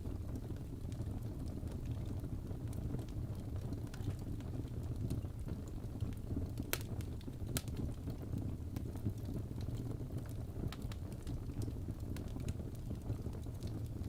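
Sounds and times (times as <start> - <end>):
fire pops: 0.0 - 14.0
wood fire crackling: 0.0 - 14.0.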